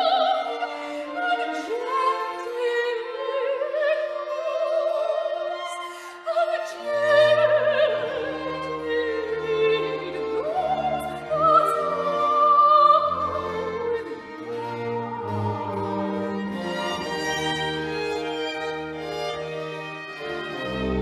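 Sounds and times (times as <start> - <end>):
operatic singing: 0.0 - 21.0
orchestral strings: 0.0 - 21.0.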